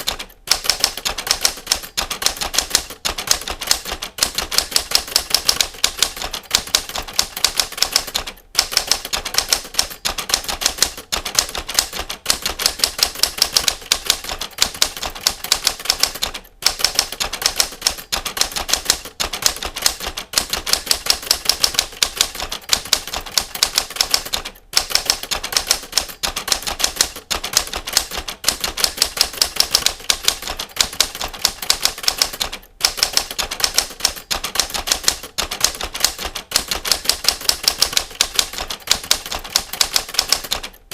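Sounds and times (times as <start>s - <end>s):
typewriter keys clacking: 0.0s - 40.9s.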